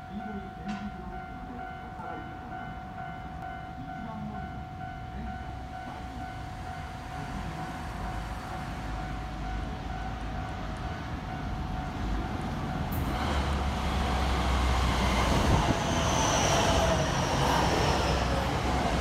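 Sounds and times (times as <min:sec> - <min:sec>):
electric train approaching: 0:00.0 - 0:19.0.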